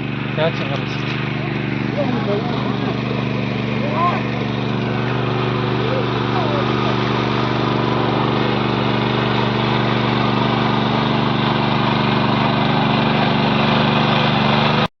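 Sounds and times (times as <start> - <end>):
engine droning steadily: 0.0 - 14.9.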